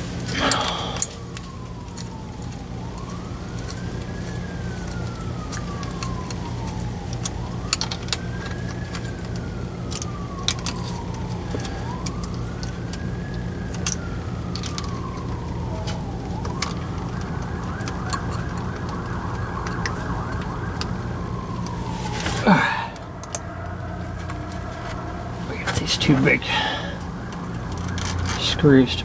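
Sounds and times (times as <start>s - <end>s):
low hum: 0.0s - 28.5s
siren wailing: 0.0s - 29.0s.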